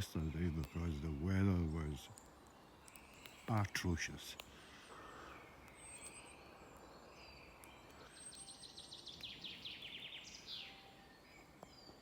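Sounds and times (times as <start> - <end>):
faint high bird chirps: 0.0 - 12.0
outdoor background noise: 0.0 - 12.0.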